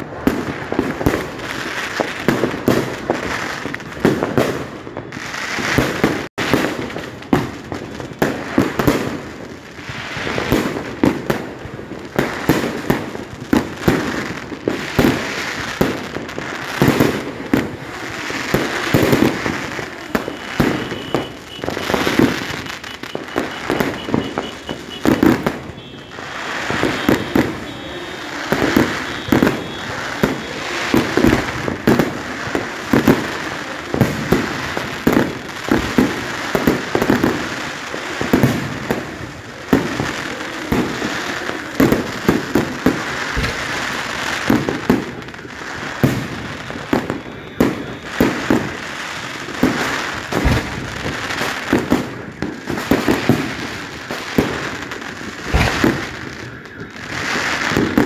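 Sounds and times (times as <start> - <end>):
fireworks bangs: 0.0 - 58.0
fireworks crackle: 0.0 - 58.0.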